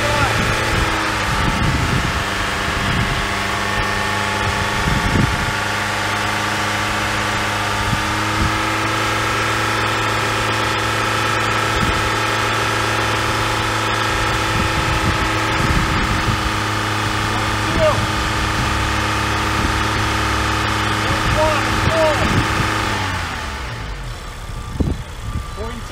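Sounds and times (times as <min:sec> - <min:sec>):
car engine idling: 0:00.0 - 0:25.9
steady whine: 0:00.0 - 0:25.9.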